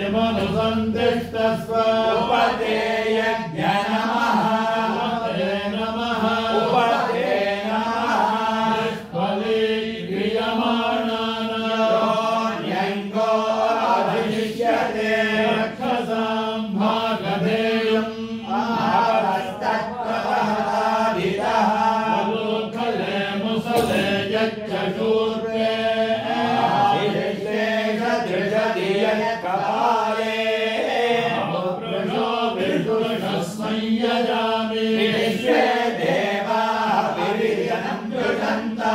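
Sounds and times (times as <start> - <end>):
chanting of mantras: 0.0 - 38.9.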